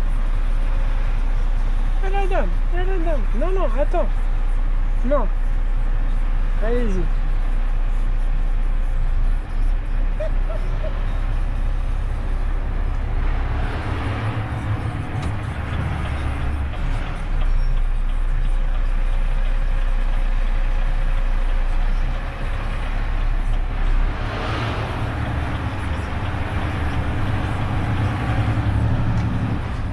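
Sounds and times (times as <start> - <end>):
truck engine rumbling: 0.0 - 29.9.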